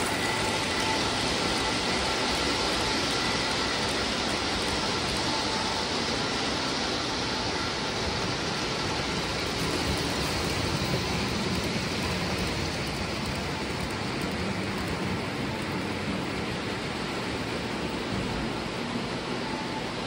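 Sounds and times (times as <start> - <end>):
model trains whirring on track: 0.0 - 20.0.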